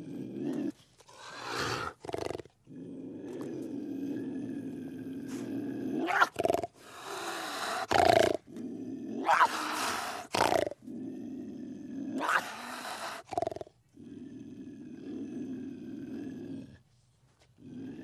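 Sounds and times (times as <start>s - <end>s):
rough animal roars: 0.0s - 16.8s
low animal growl: 0.0s - 18.0s.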